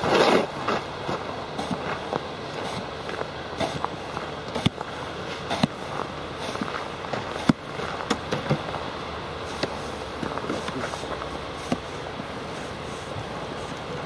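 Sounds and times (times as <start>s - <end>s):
car pulling away through snow: 0.0s - 14.0s.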